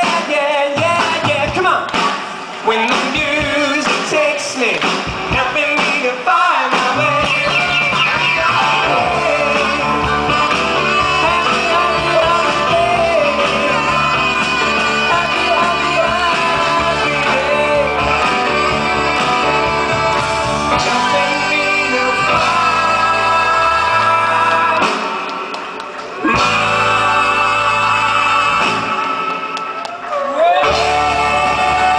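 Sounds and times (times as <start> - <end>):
band with guitar and bass: 0.0 - 31.9
voices singing: 2.7 - 31.9.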